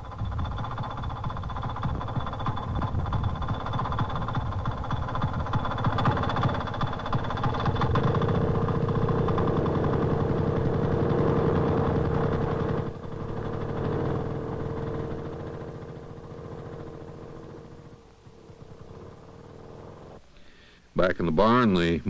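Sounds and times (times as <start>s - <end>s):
small engine running: 0.0s - 20.2s.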